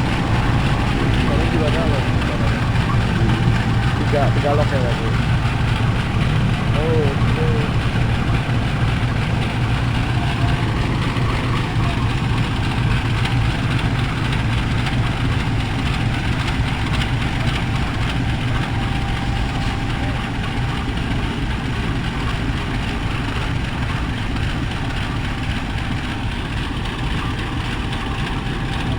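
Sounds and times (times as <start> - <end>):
diesel train engine drone: 0.0 - 28.9.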